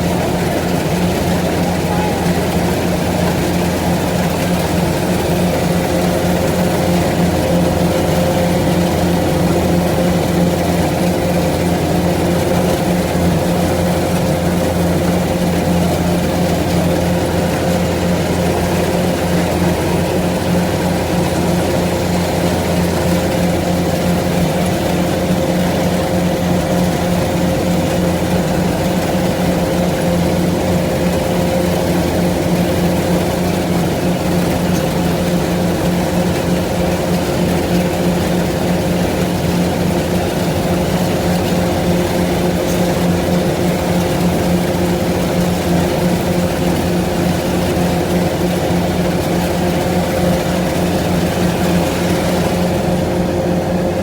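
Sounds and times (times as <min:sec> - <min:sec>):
farm machine engine humming: 0:00.0 - 0:54.0.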